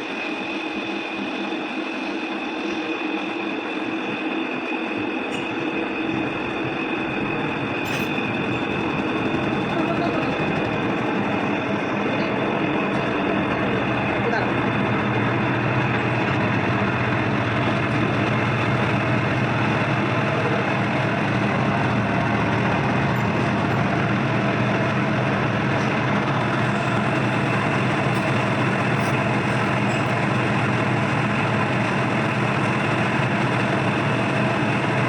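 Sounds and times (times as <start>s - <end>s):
washing machine droning: 0.0s - 35.0s.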